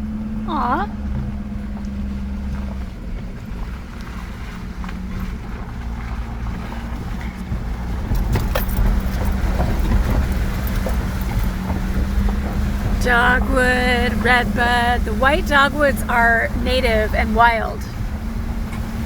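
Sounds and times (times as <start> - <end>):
vehicle driving on gravel: 0.0 - 19.0.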